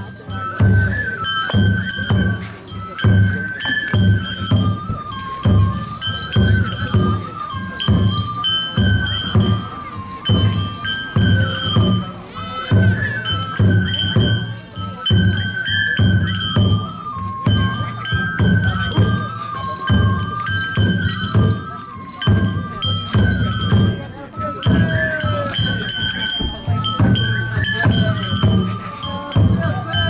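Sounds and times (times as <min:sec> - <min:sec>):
bamboo flute melody: 0:00.0 - 0:30.0
taiko drum strokes: 0:00.0 - 0:30.0.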